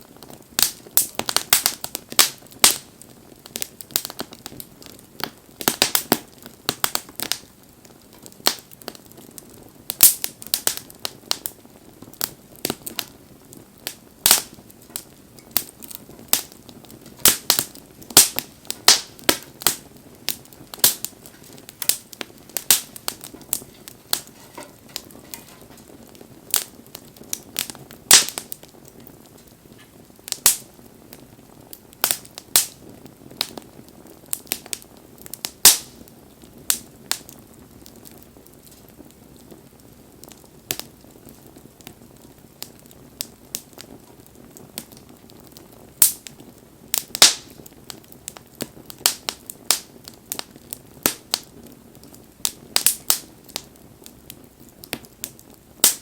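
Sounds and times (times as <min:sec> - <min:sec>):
faint steady hiss: 0:00.0 - 0:56.0
wood fire crackling: 0:00.0 - 0:56.0.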